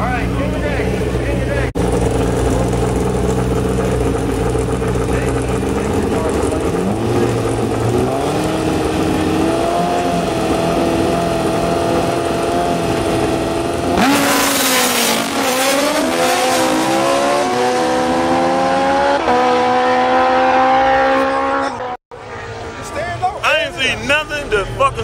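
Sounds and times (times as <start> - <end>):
drag racing engine revving: 0.0 - 25.0.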